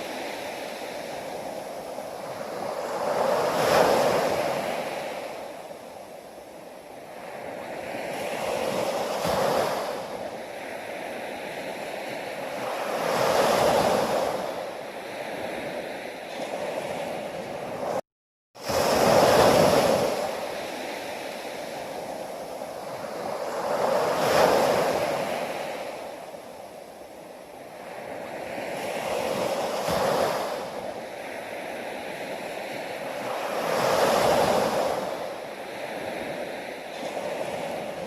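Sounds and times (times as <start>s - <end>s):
sea waves breaking on shore: 0.0s - 18.0s, 18.6s - 38.0s.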